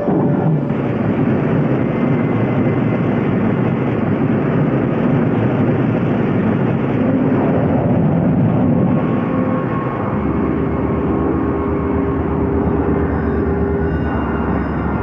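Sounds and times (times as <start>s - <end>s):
rocket motors roaring: 0.0s - 15.0s.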